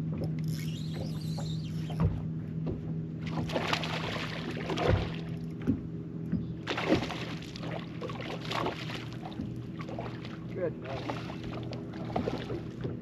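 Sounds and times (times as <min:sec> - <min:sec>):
low motor hum: 0:00.0 - 0:13.0
water sloshing and splashing: 0:00.0 - 0:13.0.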